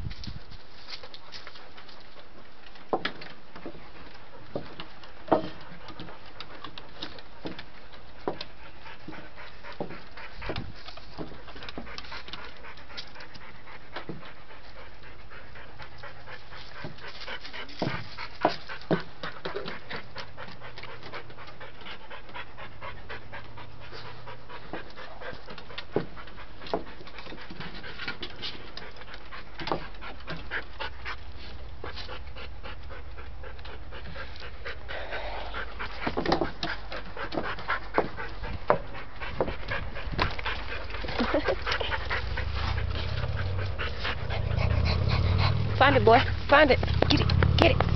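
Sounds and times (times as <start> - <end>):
dog panting: 1.0 - 47.9.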